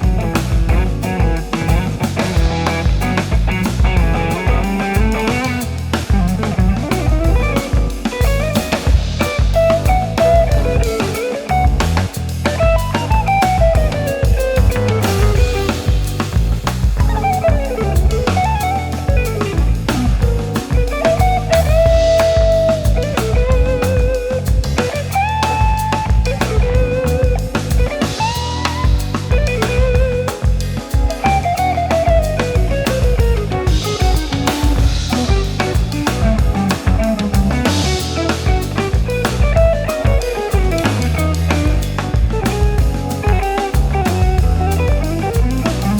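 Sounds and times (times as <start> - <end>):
drum kit steady beat: 0.0 - 45.9
guitar: 0.0 - 45.9.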